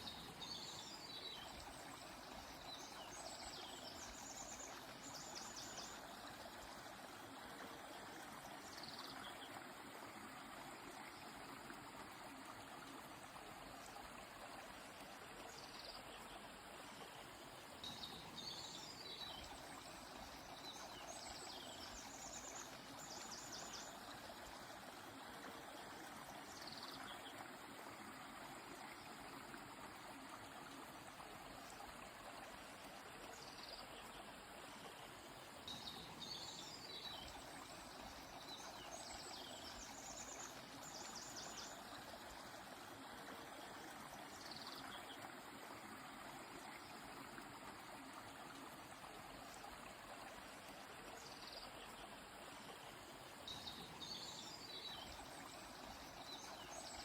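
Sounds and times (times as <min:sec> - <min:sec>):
songbirds chirping: 0:00.0 - 0:13.0, 0:14.4 - 0:30.8, 0:31.8 - 0:48.6, 0:50.0 - 0:57.0
stream flowing: 0:00.0 - 0:57.0.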